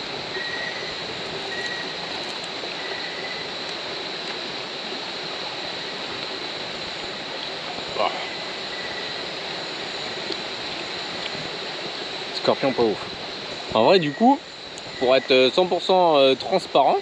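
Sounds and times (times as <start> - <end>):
creek rushing: 0.0 - 17.0
night insects droning: 0.0 - 17.0.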